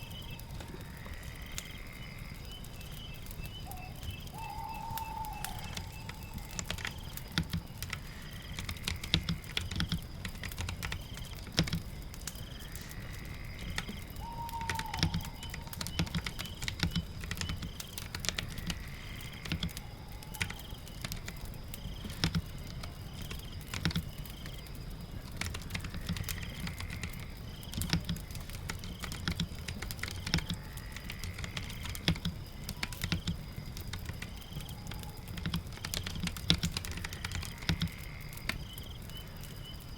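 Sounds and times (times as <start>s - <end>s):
rain: 0.0s - 39.9s.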